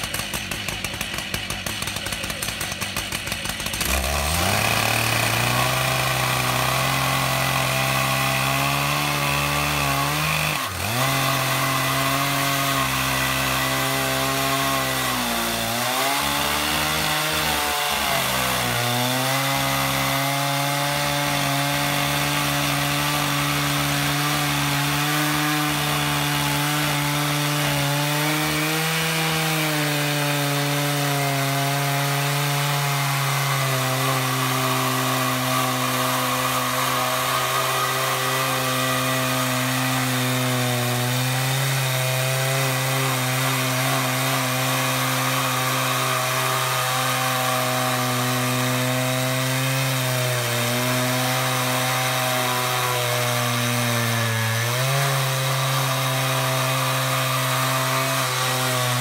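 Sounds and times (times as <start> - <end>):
chainsaws cutting through log: 0.0 - 59.0.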